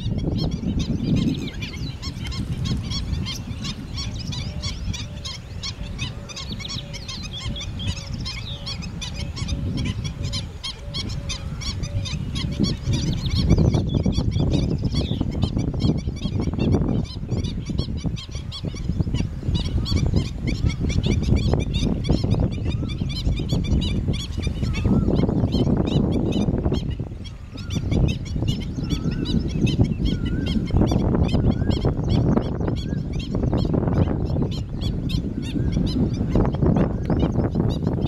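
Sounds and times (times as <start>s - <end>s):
flock of birds calling: 0.0s - 38.0s
wind rumble on microphone: 0.0s - 38.0s.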